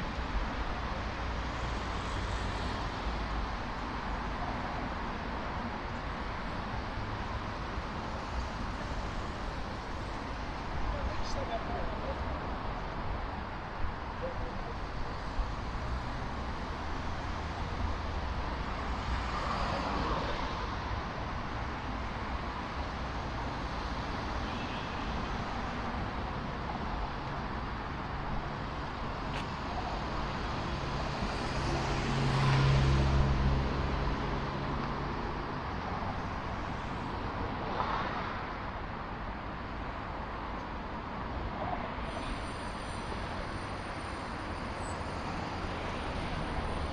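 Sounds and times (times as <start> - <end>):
road traffic noise: 0.0 - 46.9
vehicles passing: 0.0 - 46.9.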